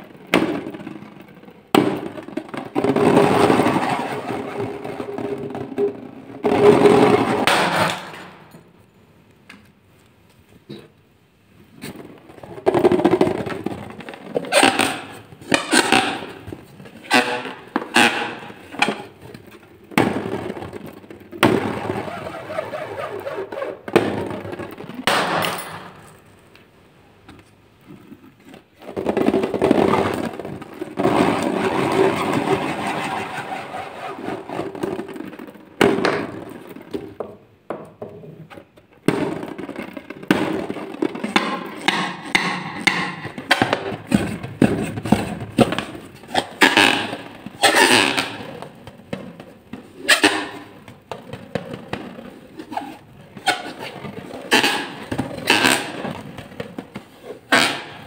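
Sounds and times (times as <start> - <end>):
hands rubbing rubber balloons: 2.0 - 8.0, 11.6 - 25.4, 27.5 - 37.0, 39.2 - 58.0.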